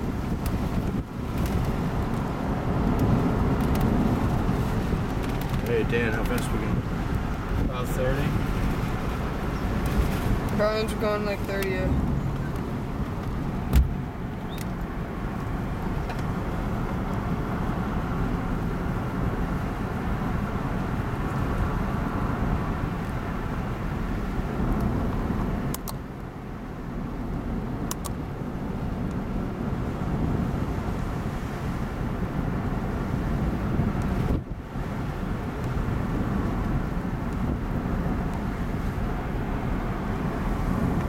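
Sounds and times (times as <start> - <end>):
car cabin road noise: 0.0 - 41.0.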